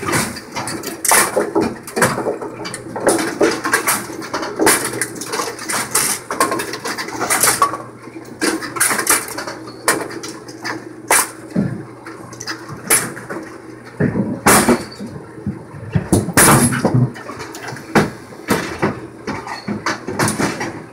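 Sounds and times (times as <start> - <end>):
bowling pins clattering: 0.0 - 20.9.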